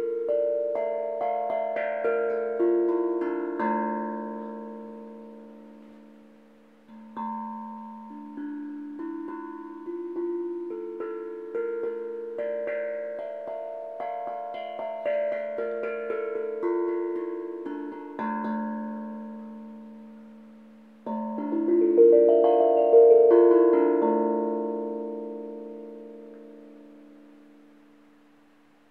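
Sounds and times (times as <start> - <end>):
steel tongue drum notes: 0.0 - 28.9.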